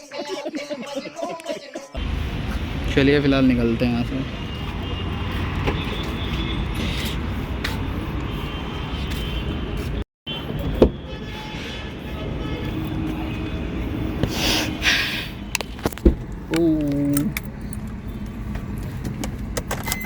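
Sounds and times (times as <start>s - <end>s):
car road and engine rumble: 2.0s - 20.0s.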